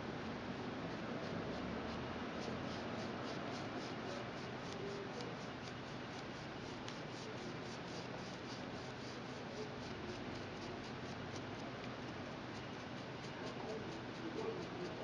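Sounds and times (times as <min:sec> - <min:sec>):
steady hiss: 0:00.8 - 0:15.0
scratchy rubbing on plastic: 0:01.0 - 0:15.0.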